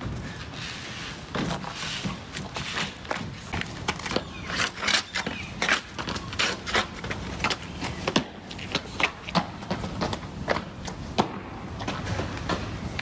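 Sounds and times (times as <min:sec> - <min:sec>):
running footsteps on wood and stone: 0:01.2 - 0:13.0.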